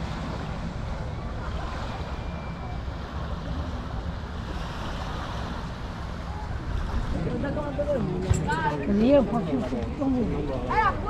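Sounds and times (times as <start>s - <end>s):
outdoor noise: 0.0s - 11.0s
wind buffeting microphone: 0.0s - 11.0s.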